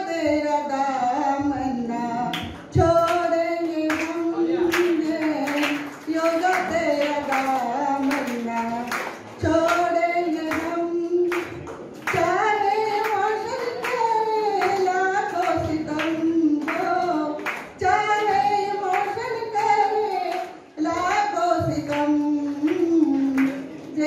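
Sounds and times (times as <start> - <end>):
woman singing into a microphone: 0.0 - 24.0
steady hand claps: 2.3 - 24.0.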